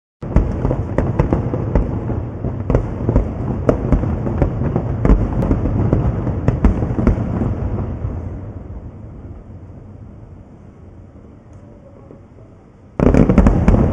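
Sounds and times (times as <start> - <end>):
firework bursts and crackles: 0.2 - 11.2, 12.9 - 13.9.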